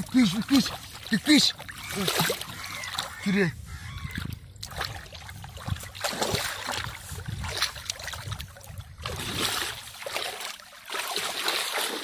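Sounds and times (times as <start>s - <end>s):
hands splashing in muddy water: 0.0s - 3.3s, 4.1s - 12.0s.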